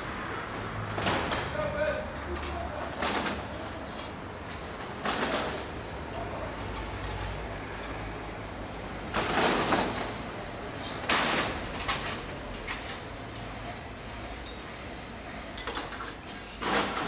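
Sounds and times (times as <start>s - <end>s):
low traffic hum: 0.0s - 17.0s.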